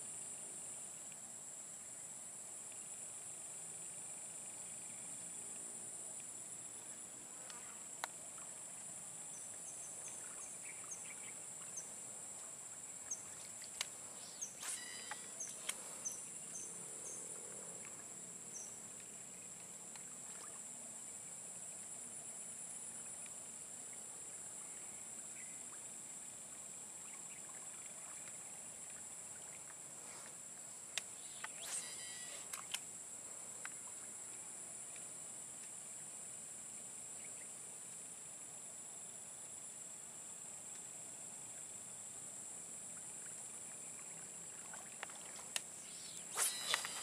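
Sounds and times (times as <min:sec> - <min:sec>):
insect chorus drone: 0:00.0 - 0:47.0.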